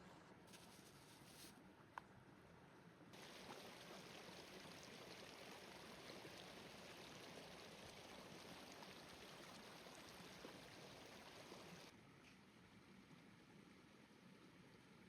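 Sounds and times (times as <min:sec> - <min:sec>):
faint steady rain: 0:00.5 - 0:15.0.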